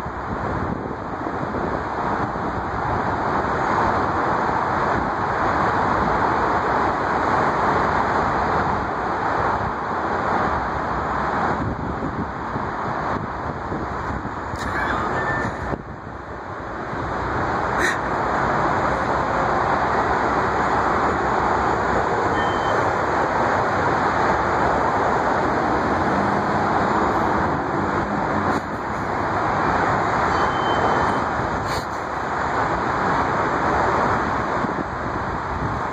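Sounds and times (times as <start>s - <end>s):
street traffic rushing: 0.0s - 35.9s.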